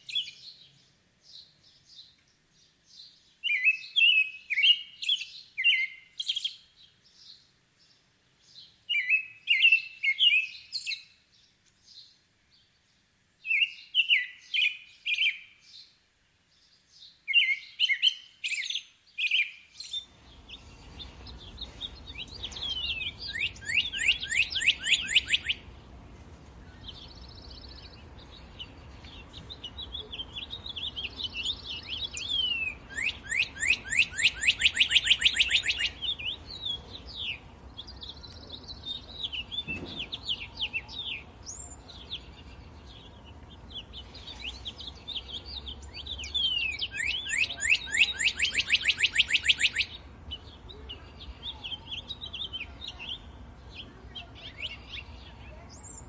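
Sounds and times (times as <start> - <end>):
steady low hiss: 0.0 - 33.9, 34.5 - 46.9
songbirds chirping: 0.0 - 56.0.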